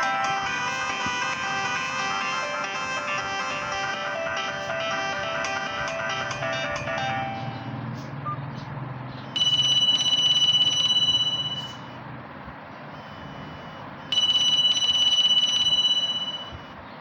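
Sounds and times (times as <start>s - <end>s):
phone ringtone trilling: 0.0s - 8.4s, 9.3s - 12.0s, 12.9s - 16.8s.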